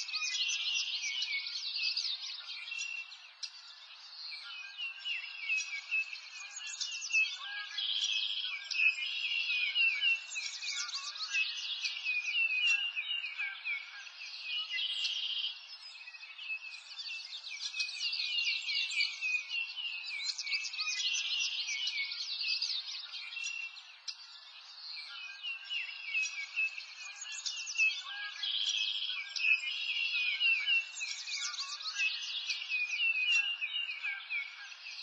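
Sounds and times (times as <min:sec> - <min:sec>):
songbirds chirping and singing: 0:00.0 - 0:35.0.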